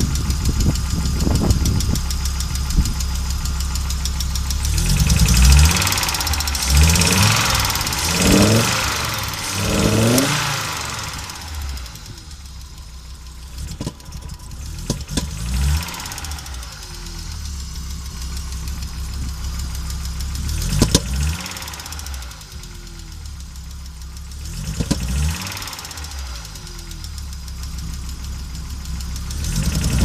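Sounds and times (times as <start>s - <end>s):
car engine misfiring and revving: 0.0s - 30.0s
engine pops: 0.0s - 30.0s.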